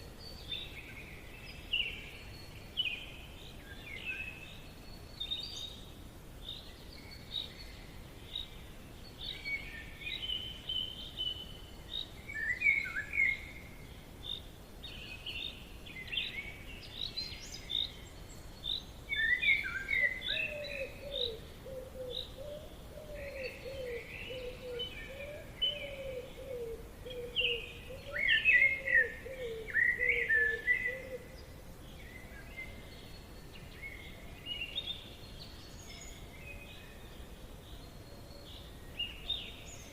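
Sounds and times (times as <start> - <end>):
birds chirping and trilling: 0.0 - 39.9
forest background hiss: 0.0 - 39.9
low repeated bird call: 6.6 - 39.9.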